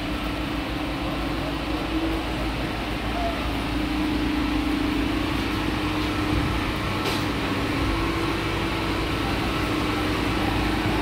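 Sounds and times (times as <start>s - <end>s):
city street noise: 0.0s - 11.0s
low mechanical hum: 0.0s - 11.0s.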